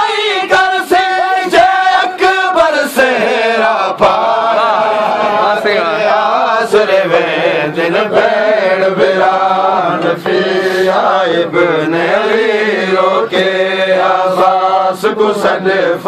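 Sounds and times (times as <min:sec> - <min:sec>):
men chanting a lament: 0:00.0 - 0:16.0.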